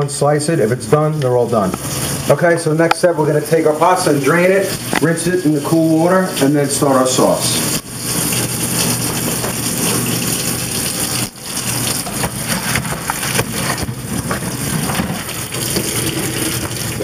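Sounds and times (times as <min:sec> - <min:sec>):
water pouring into a colander: 0:00.2 - 0:17.0.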